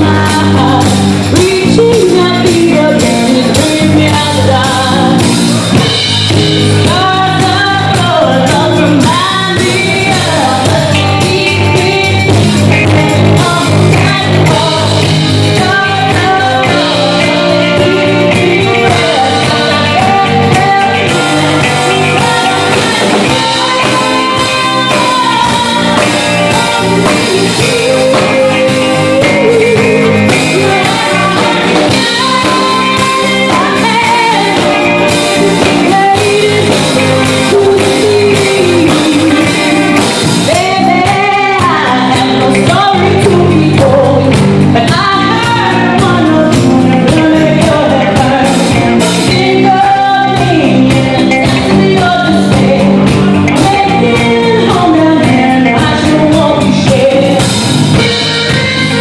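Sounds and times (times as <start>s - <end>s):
live rock band playing: 0.0s - 59.0s
woman singing: 0.0s - 59.0s.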